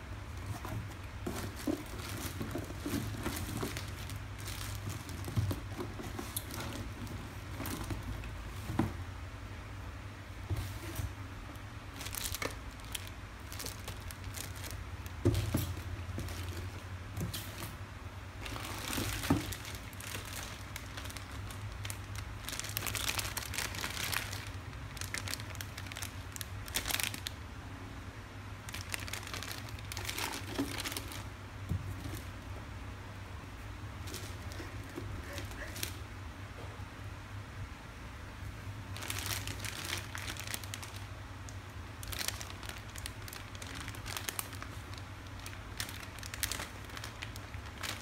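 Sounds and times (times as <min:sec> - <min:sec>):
plastic wrapping crinkling: 0:00.3 - 0:09.0, 0:11.8 - 0:17.8, 0:18.4 - 0:27.4, 0:28.6 - 0:32.4, 0:34.0 - 0:36.0, 0:38.9 - 0:48.0.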